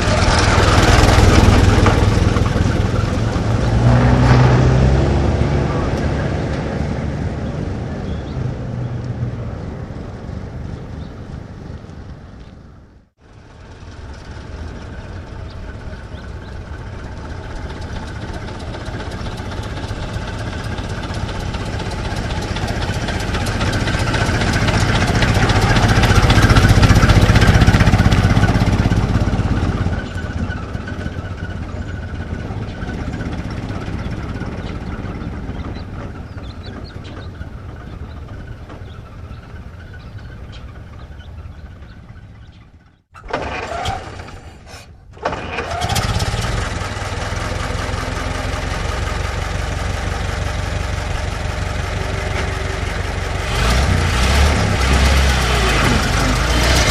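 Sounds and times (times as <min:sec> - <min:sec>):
old car engine running: 0:00.0 - 0:08.4, 0:13.2 - 0:56.9.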